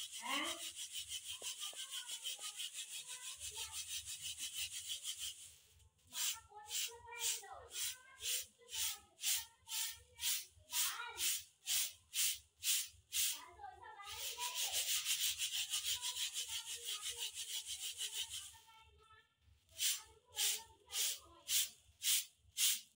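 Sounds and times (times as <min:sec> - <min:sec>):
grains rattling in bamboo sieve: 0:00.0 - 0:05.6, 0:06.2 - 0:13.4, 0:14.2 - 0:18.5, 0:19.8 - 0:22.8.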